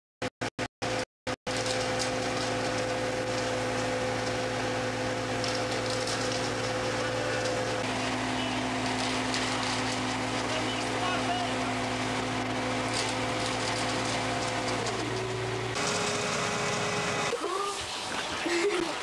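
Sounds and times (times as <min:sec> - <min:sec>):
concrete mixer truck humming: 0:00.8 - 0:19.0.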